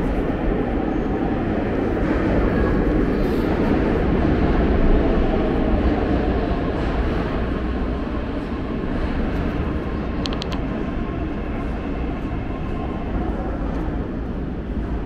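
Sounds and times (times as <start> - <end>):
metro train rumbling: 0.0 - 15.0.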